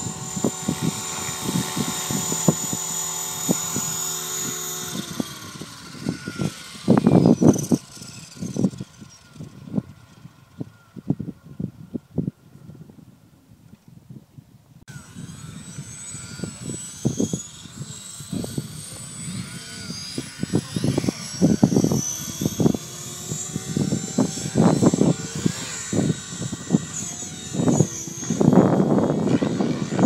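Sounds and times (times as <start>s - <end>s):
helicopter rotor: 0.0s - 12.6s, 14.9s - 30.0s
rc helicopter whine: 0.0s - 13.8s, 14.8s - 30.0s.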